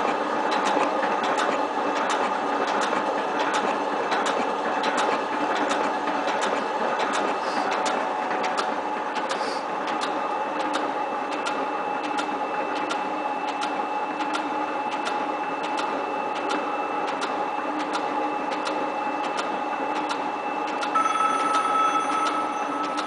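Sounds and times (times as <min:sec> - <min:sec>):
regular machine clicking: 0:00.5 - 0:21.6.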